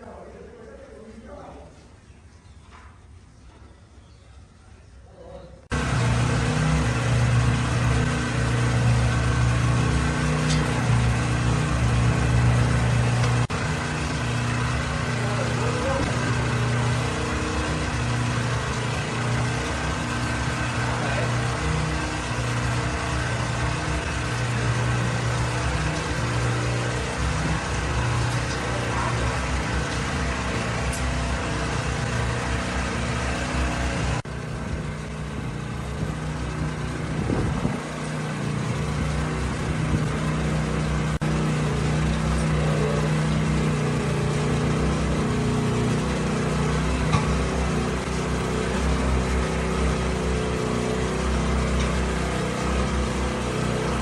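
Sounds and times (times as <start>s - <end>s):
motor humming: 5.7s - 54.0s.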